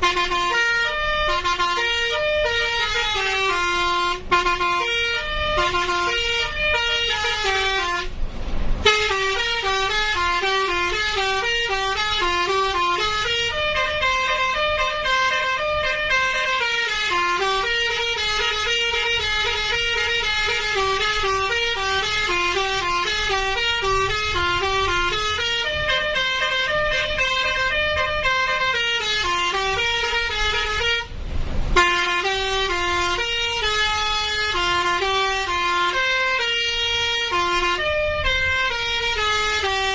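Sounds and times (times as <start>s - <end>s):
multi-tone bus air horn melody: 0.0s - 39.9s.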